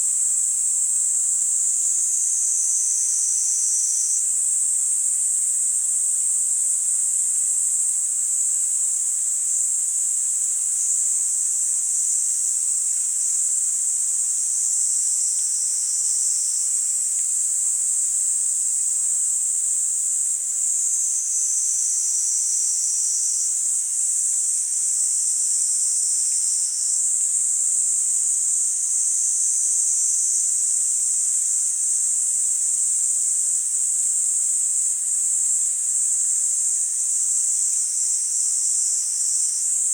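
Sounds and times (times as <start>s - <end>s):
cicadas chorus: 0.0s - 39.9s.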